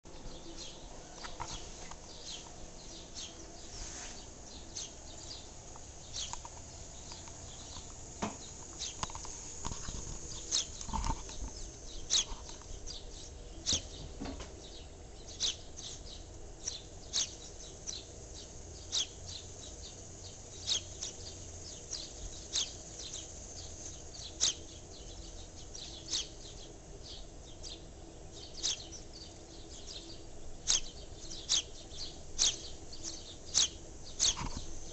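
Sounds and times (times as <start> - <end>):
small birds chirping: 0.0 - 34.9
faint background hum: 0.1 - 34.9.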